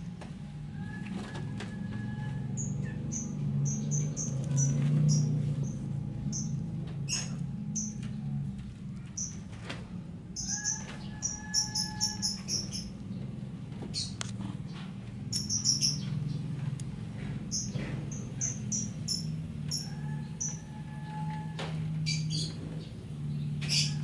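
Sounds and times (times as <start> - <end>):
steady low hum: 0.0 - 24.0
small birds chirping: 2.6 - 8.2, 8.9 - 9.5, 10.3 - 21.3, 21.9 - 24.0.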